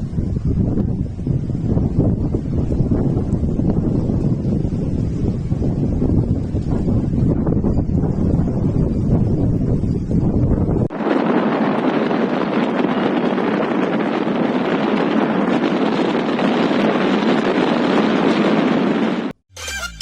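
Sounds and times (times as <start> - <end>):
rushing wind: 0.0 - 19.4
wind buffeting microphone: 0.0 - 19.4.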